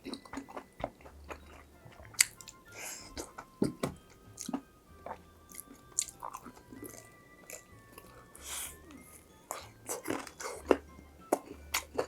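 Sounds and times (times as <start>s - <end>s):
crunchy food chewing: 0.0s - 12.0s
soft background music: 0.0s - 12.0s.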